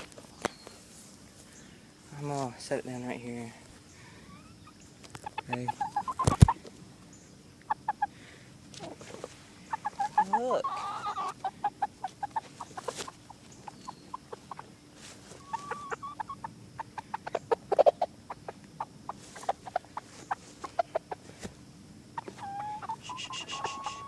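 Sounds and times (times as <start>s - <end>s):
chickens clucking: 2.2s - 24.0s.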